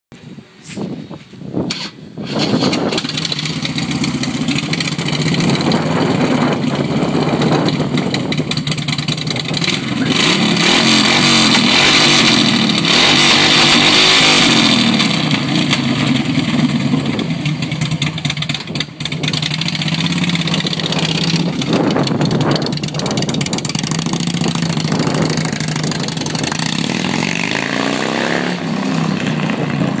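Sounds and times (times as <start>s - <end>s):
motorcycle engine starting and revving: 1.6s - 30.0s.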